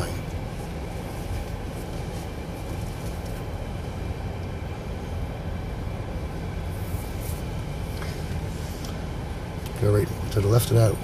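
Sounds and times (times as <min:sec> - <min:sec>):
low car cabin rumble: 0:00.0 - 0:11.0.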